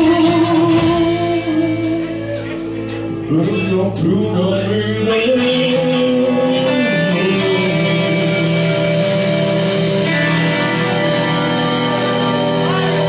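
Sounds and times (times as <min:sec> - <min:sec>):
electric guitars ringing chord: 0:00.0 - 0:13.0.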